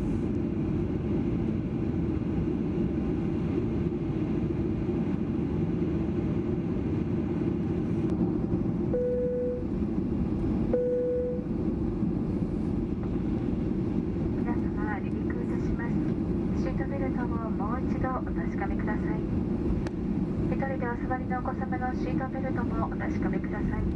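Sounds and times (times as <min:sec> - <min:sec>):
airliner cabin roar: 0:00.0 - 0:23.9.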